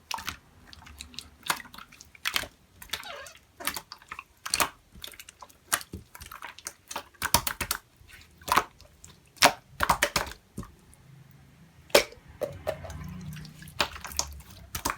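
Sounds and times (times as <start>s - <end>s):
slime squishing with wet pops: 0.0s - 14.9s.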